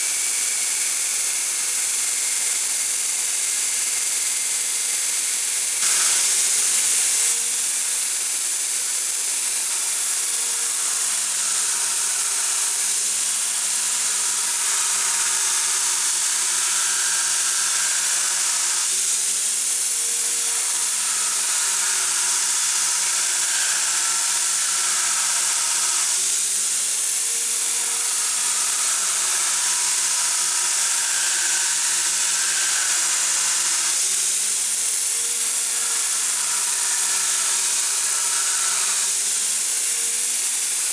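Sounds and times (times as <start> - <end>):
electric grinder grinding steel: 0.0 - 40.9.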